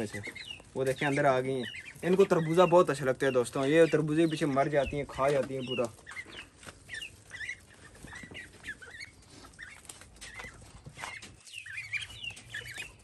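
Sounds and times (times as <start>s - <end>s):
birds chirping and clucking: 0.0s - 13.0s.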